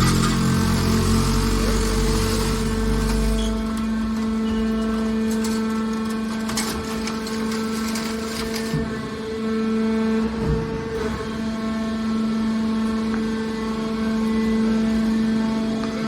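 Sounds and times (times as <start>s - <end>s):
baler machine hum: 0.0s - 16.0s.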